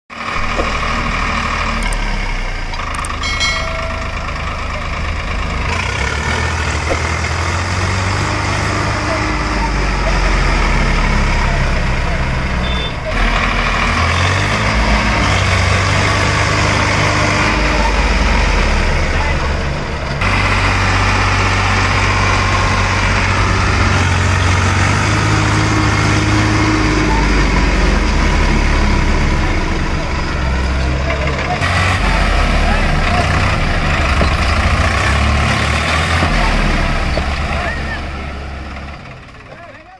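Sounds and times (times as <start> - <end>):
tractor diesel engines running: 0.1 - 39.9.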